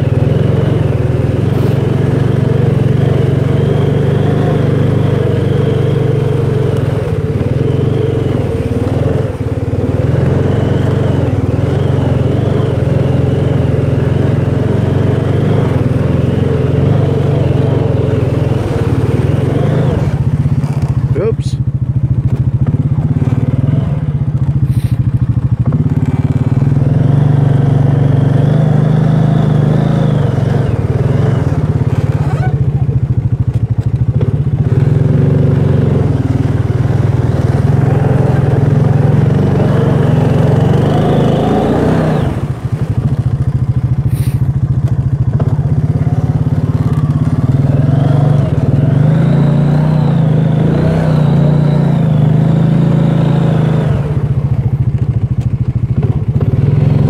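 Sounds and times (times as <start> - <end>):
atv engine running hard: 0.0 - 57.0.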